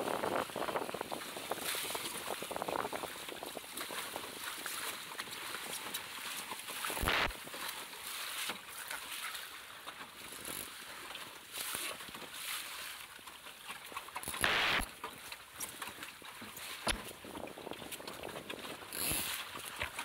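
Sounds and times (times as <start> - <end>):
water slapping against boat hull: 0.0 - 20.0.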